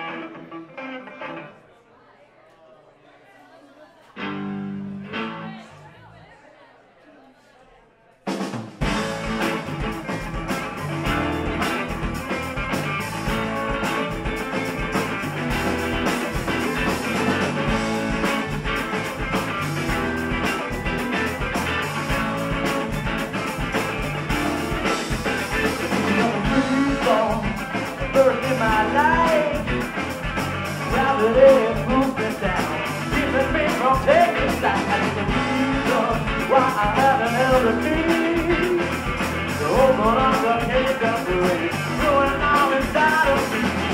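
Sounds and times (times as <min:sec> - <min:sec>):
rock band playing: 0:00.0 - 0:01.6, 0:04.2 - 0:05.7, 0:08.3 - 0:43.9.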